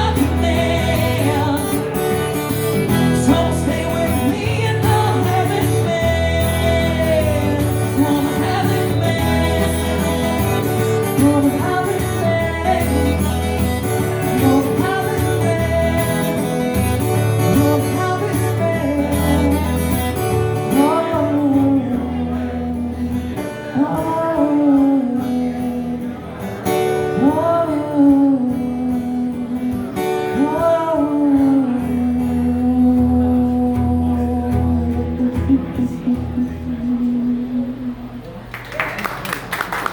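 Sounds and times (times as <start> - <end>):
man singing: 0.0 - 38.2
guitar accompaniment: 0.0 - 39.9.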